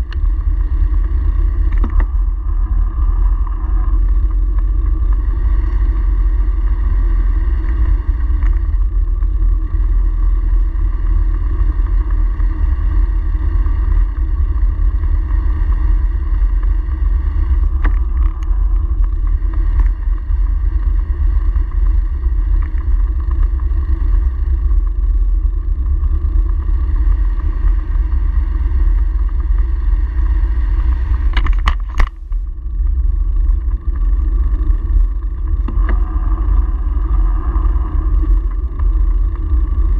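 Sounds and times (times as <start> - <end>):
bicycle road rumble: 0.0 - 39.9.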